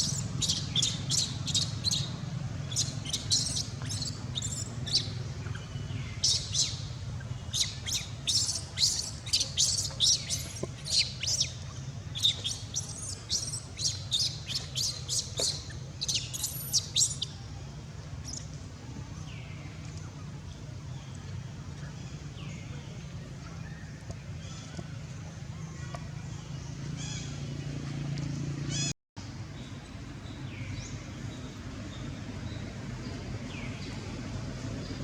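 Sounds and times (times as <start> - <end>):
steady low hum: 0.0 - 28.1.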